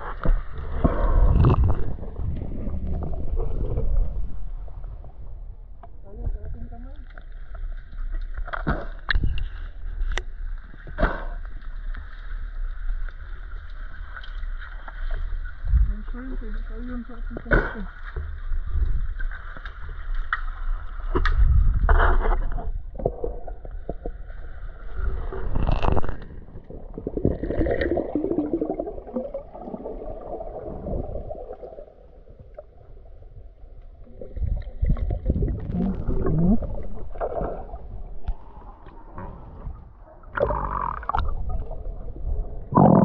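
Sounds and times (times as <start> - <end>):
water gurgling and sloshing: 0.0 - 43.0.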